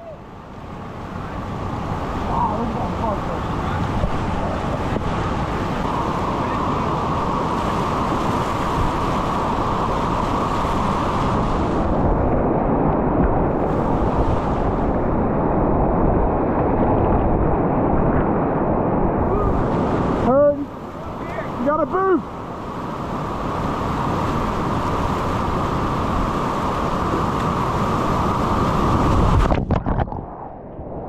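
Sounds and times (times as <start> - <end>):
whitewater rushing: 0.0 - 29.7
wind buffeting microphone: 0.2 - 21.5, 22.3 - 31.0.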